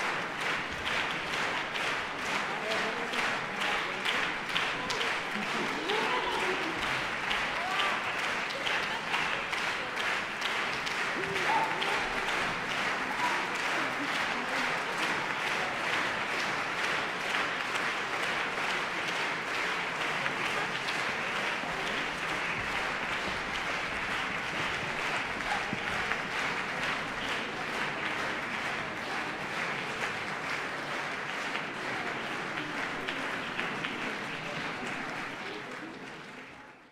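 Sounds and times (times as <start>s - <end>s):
audience applauding: 0.0s - 36.9s.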